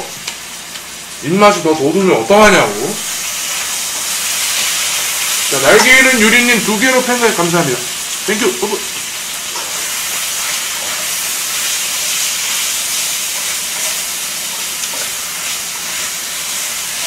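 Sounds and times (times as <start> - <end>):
pork and kimchi sizzling: 0.0 - 17.0.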